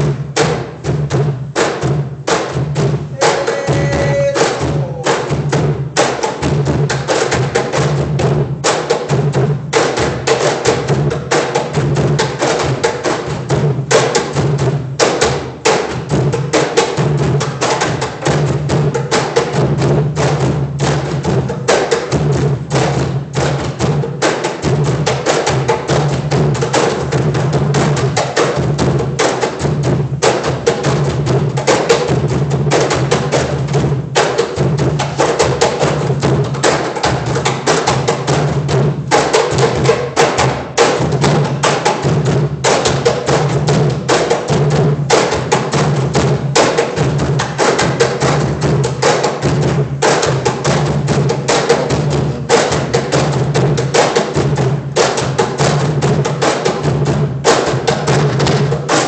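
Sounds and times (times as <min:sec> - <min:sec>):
cajon ensemble drumming: 0:00.0 - 0:59.0.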